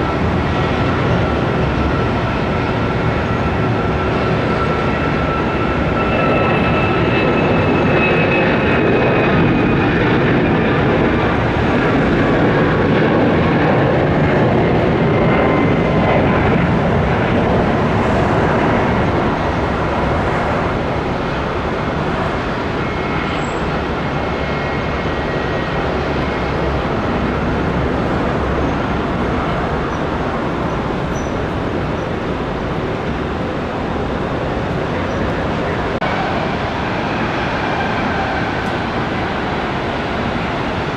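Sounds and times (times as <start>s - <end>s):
jet engine roar: 0.0s - 40.9s.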